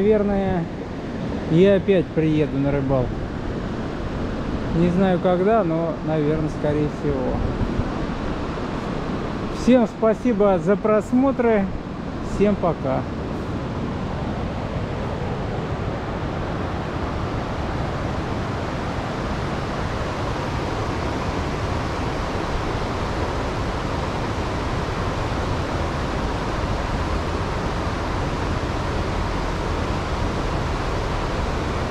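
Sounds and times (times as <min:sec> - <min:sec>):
steady rushing noise: 0:00.0 - 0:31.9.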